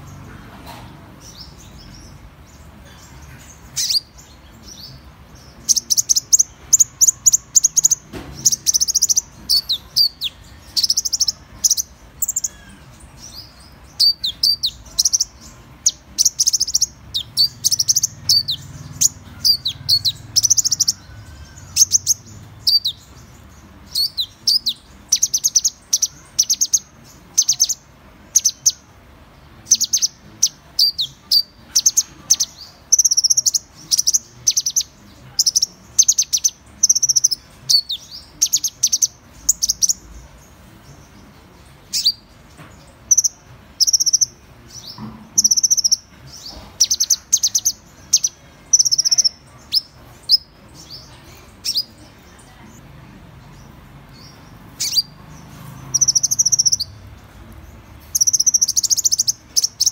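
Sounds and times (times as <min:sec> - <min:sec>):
sunbird chirping and twittering: 0:00.0 - 0:59.9.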